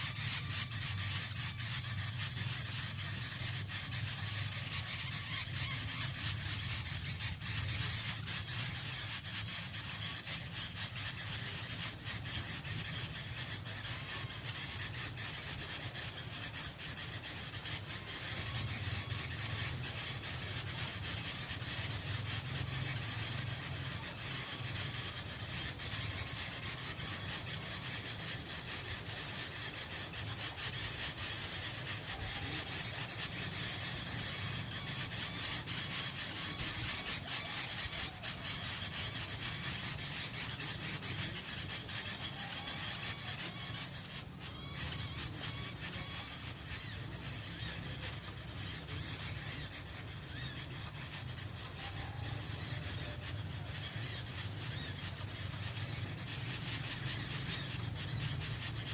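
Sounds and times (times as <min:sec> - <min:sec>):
small birds chattering: 0:00.0 - 0:58.9.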